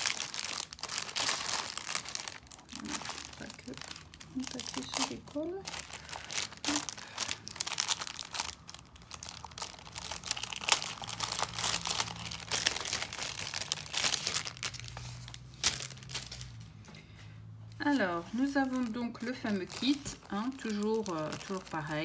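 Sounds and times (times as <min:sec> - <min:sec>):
plastic wrapping crinkling: 0:00.0 - 0:16.9, 0:17.7 - 0:22.0.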